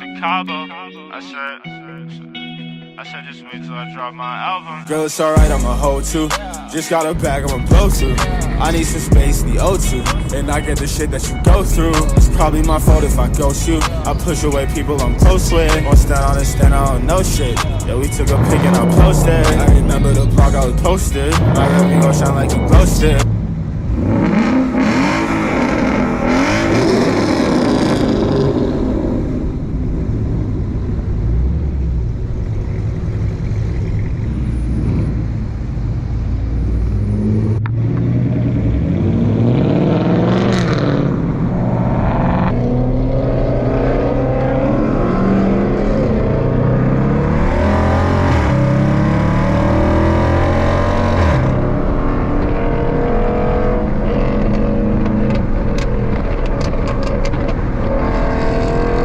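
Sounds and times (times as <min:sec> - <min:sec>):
car engines revving: 0:05.2 - 0:59.0.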